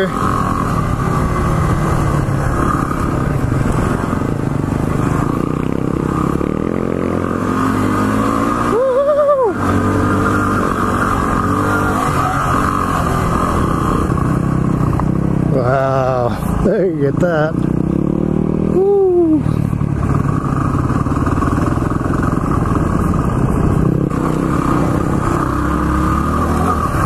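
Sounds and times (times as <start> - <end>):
dirt bike engine running: 0.0 - 27.0.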